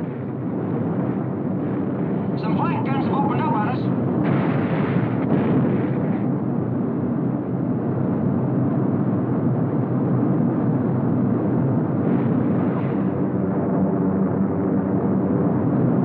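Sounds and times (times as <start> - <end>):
aircraft engines droning: 0.0 - 4.3, 5.0 - 16.0.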